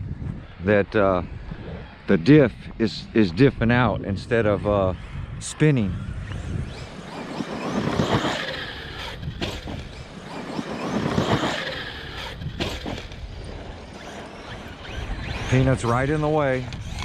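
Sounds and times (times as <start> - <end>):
electric rc truck driving on dirt: 0.0 - 17.0.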